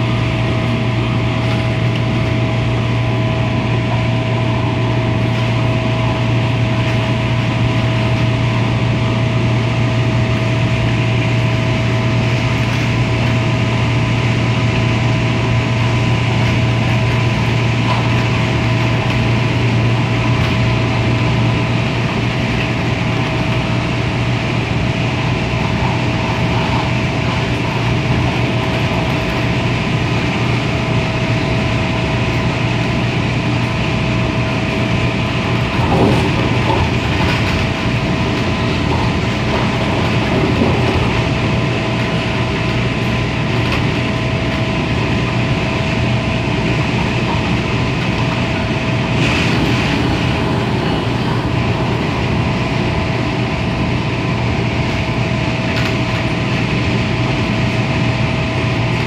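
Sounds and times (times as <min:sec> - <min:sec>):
rumble of wheels on rail: 0:00.0 - 0:59.0
steady train whine: 0:00.0 - 0:59.0.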